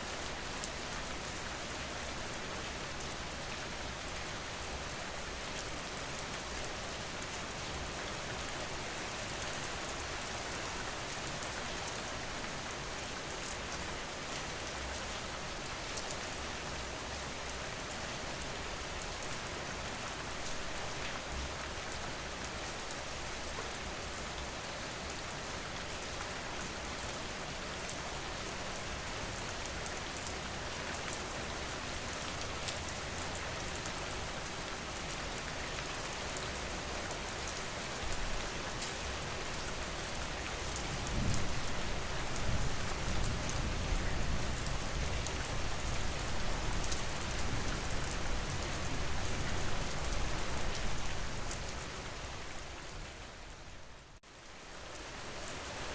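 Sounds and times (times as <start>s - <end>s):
rain pattering on a surface: 0.0s - 55.9s.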